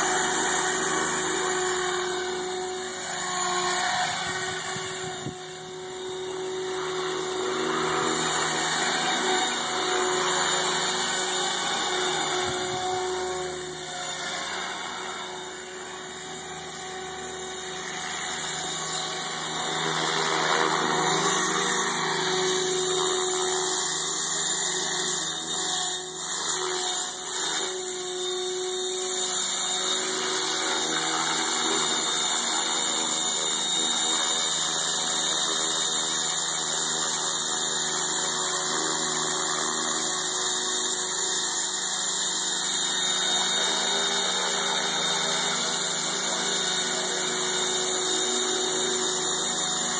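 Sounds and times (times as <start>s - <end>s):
rc helicopter motor whine: 0.0s - 49.9s.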